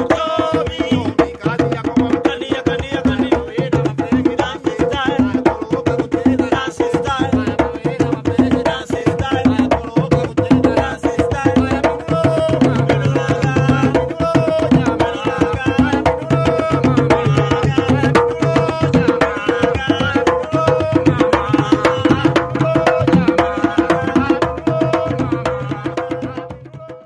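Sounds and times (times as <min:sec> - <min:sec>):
fast hand-drum patterns: 0:00.0 - 0:27.0.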